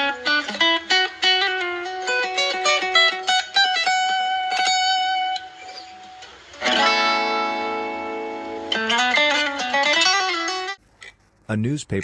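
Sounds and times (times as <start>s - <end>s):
guitar plucked notes and strummed chord: 0.0s - 10.8s.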